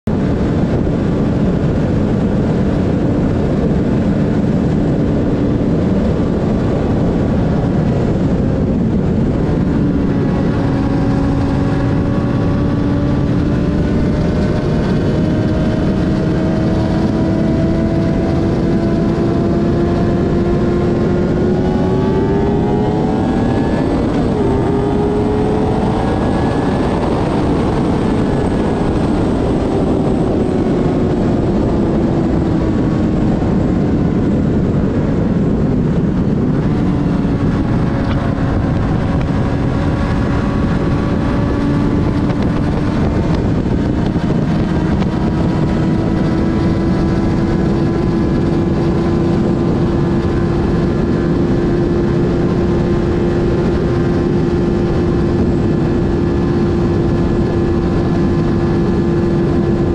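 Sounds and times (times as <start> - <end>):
motorcycle engine at speed: 0.0 - 59.9
wind rush: 0.0 - 59.9.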